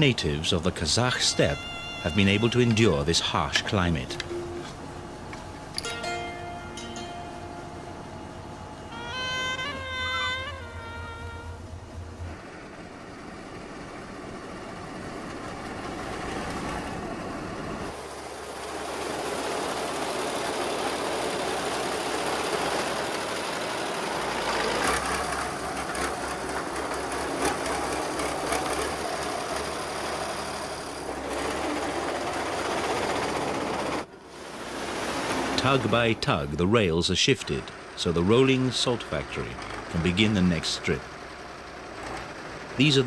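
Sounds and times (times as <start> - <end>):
train machinery running on rails: 0.0 - 43.0.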